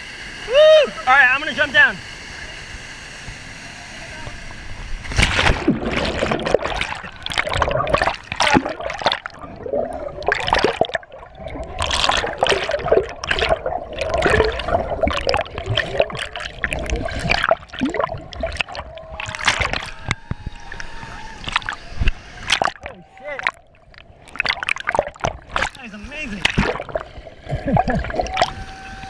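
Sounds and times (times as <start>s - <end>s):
water splashing and sloshing: 4.5s - 29.0s.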